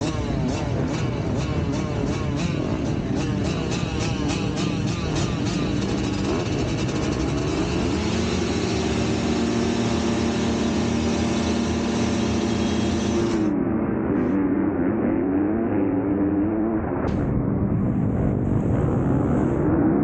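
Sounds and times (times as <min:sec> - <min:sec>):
motocross bike engine revving: 0:00.0 - 0:16.0.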